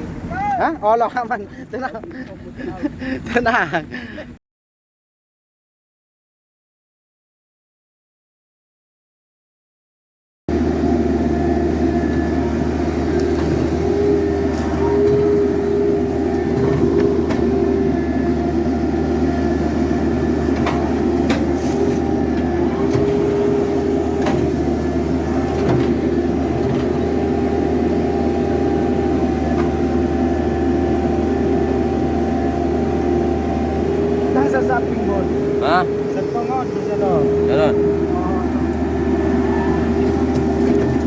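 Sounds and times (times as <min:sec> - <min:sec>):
excavator engine drone: 0:00.0 - 0:04.4, 0:10.5 - 0:41.0.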